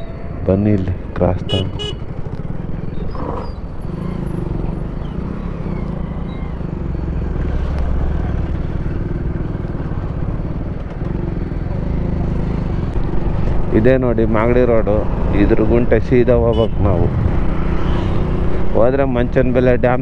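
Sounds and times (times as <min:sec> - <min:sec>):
motorcycle engine running: 0:01.0 - 0:19.8.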